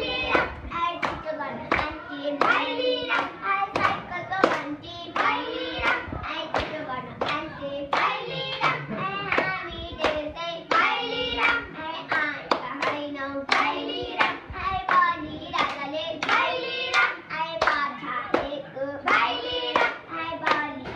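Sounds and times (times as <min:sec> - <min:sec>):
girls singing in unison: 0:00.0 - 0:20.9
hands clapping in time: 0:00.3 - 0:20.9.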